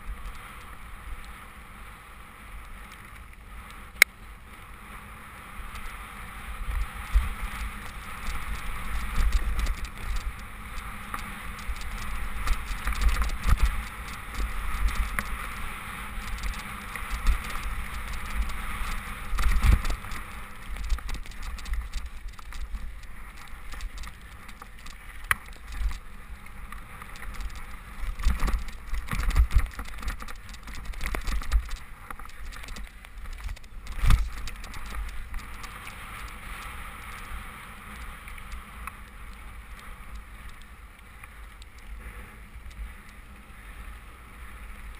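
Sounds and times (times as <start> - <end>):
mountain bike rattling: 0.0 - 44.9.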